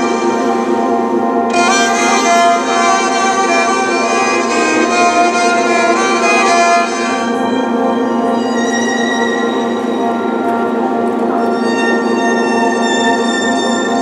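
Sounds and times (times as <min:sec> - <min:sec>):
electric cello sustained notes: 0:00.0 - 0:14.0
steady low drone: 0:00.0 - 0:14.0.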